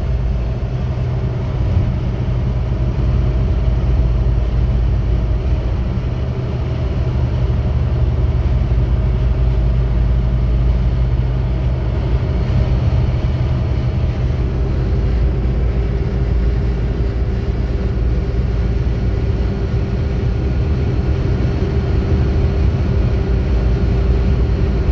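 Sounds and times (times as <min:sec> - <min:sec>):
faint engine hum: 0:00.0 - 0:24.9
road noise inside a vehicle: 0:00.0 - 0:24.9.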